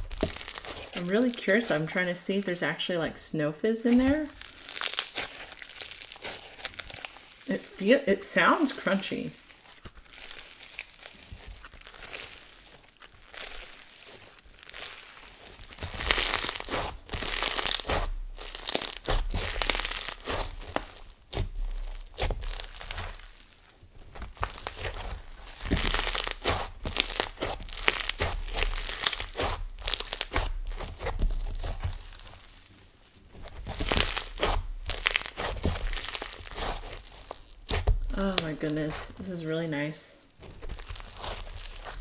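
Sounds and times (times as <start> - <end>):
slime crunching and crackling: 0.0 - 3.0, 3.8 - 42.0.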